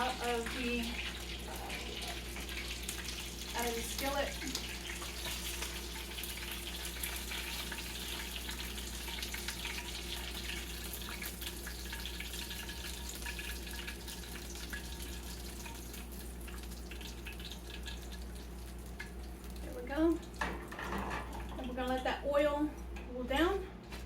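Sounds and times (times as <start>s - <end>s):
hot oil sizzling and crackling: 0.0s - 22.4s.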